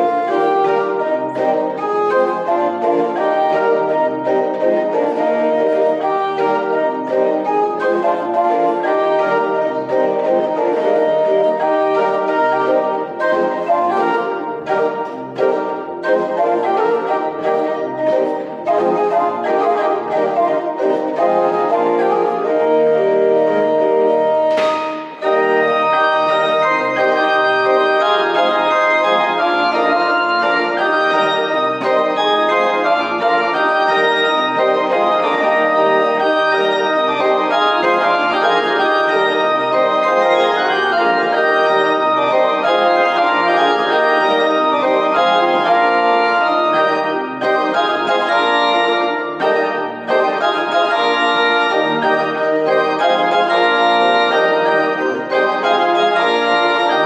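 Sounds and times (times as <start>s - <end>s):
church organ playing hymn: 0.0s - 57.0s.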